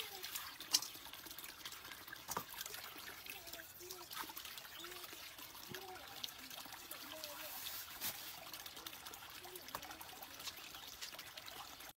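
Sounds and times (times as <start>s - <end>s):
stream water trickling: 0.0s - 11.9s
water poured from metal bowl: 0.0s - 11.9s.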